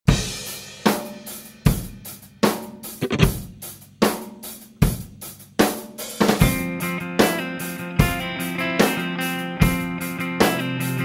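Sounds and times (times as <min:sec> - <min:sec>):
punk rock drum kit: 0:00.1 - 0:11.0.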